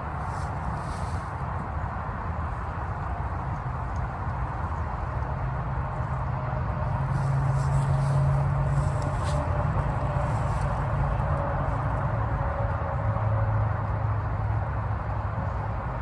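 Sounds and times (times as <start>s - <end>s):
highway traffic noise: 0.0s - 16.0s.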